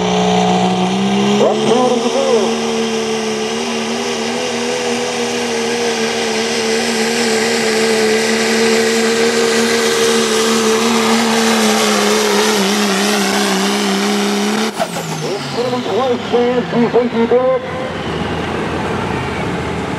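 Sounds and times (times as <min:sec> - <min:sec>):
diesel truck engine droning: 0:00.0 - 0:19.9.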